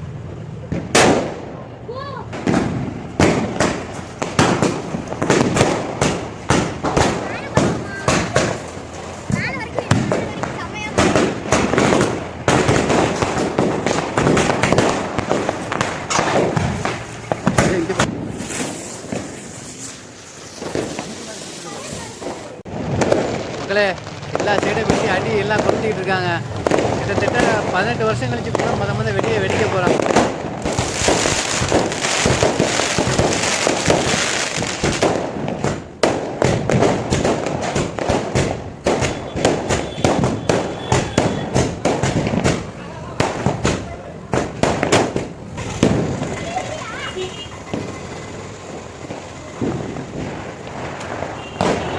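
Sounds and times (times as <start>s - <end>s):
firecrackers crackling: 0.0s - 51.9s.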